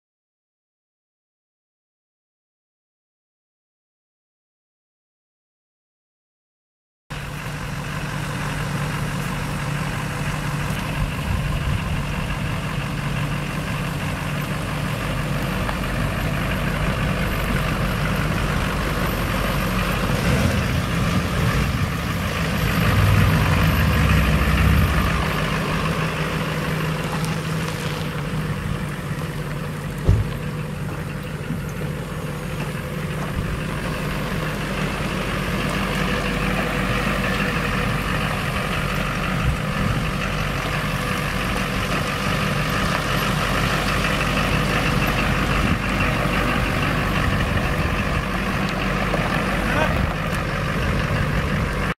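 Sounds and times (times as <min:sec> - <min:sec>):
diesel engine idling: 0:07.1 - 0:51.9.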